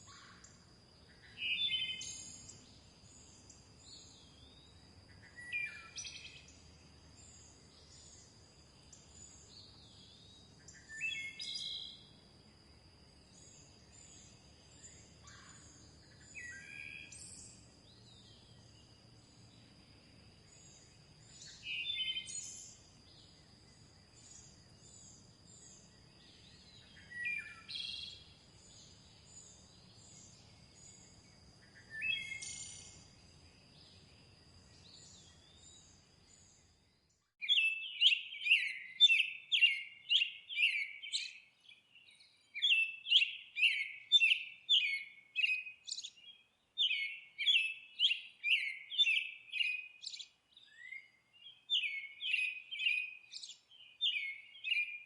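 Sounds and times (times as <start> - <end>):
bird song phrase: 0.0 - 55.0.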